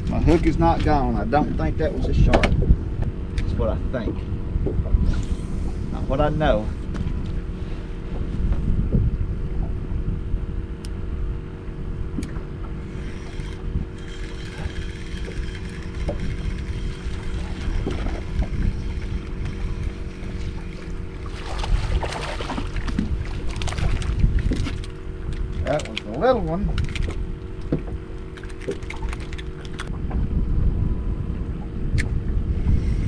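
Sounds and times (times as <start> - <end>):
steady low hum: 0.0 - 33.0
wind buffeting microphone: 0.0 - 33.0.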